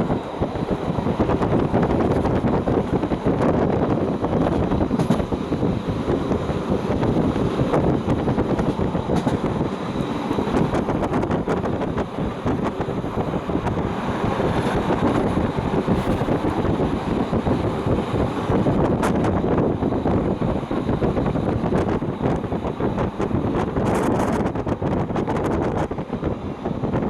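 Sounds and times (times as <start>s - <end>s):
train running rumble: 0.0s - 27.0s
wind buffeting microphone: 0.0s - 27.0s.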